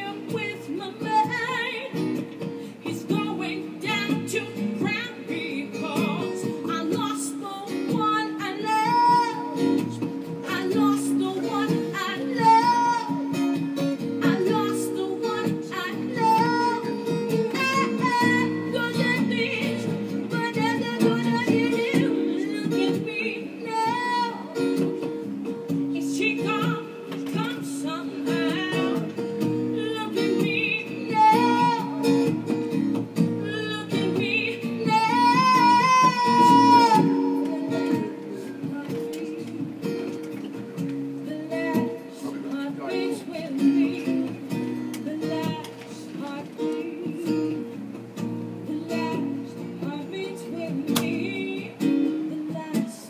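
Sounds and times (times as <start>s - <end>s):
person singing: 0.0s - 25.1s, 25.8s - 40.3s, 41.2s - 47.8s, 48.5s - 53.0s
guitar chords: 0.0s - 53.0s.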